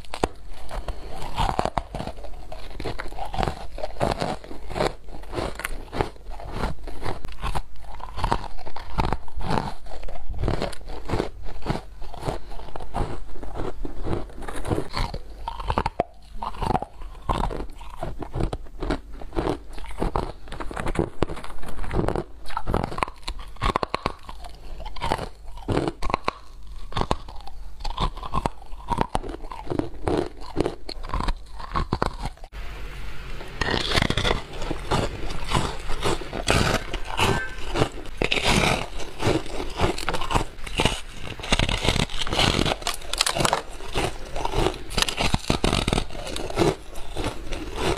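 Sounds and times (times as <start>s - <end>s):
crunching frost: 0.0s - 47.9s.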